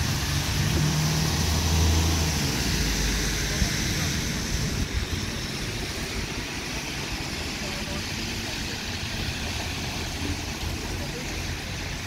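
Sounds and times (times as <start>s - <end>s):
bus engines rumbling: 0.0s - 12.0s
traffic noise: 0.0s - 12.0s.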